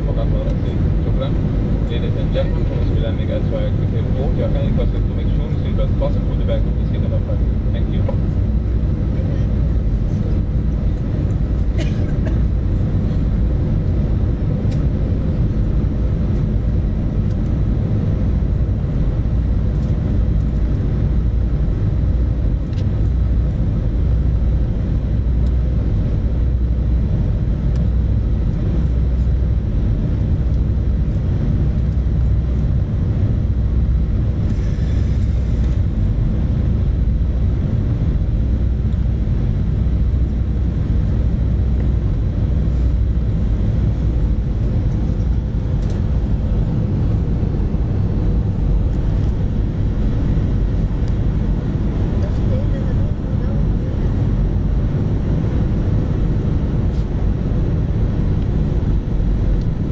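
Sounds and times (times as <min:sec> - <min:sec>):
faint steady hum: 0:00.0 - 0:59.9
jet engines rumbling: 0:00.0 - 0:59.9.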